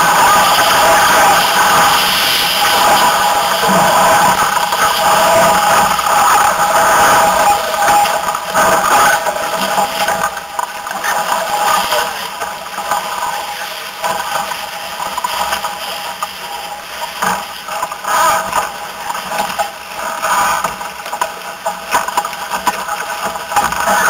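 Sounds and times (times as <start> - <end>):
water rushing past boat: 0.0 - 24.0.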